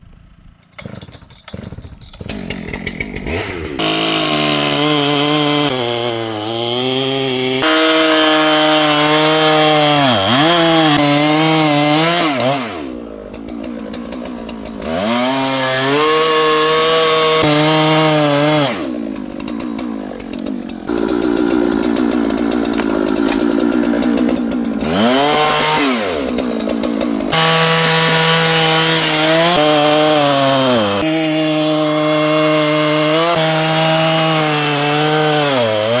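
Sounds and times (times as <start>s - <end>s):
chainsaw cutting a tree: 0.7s - 36.0s.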